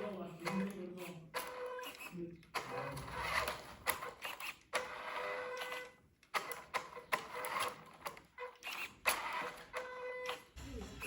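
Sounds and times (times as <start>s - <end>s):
small electric motors whirring: 0.0s - 11.0s.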